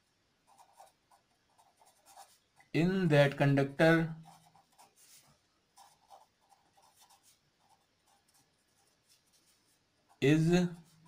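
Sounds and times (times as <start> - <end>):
pen scratching on paper: 0.5 - 2.7, 4.2 - 11.0.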